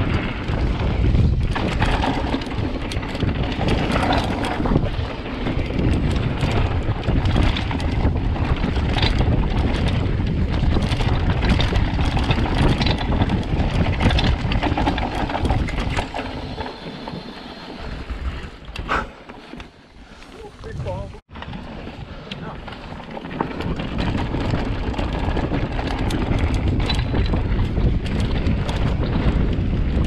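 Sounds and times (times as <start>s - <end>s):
wind on microphone: 0.0s - 19.2s, 20.0s - 30.0s
bike rattling and clicking: 0.0s - 30.0s.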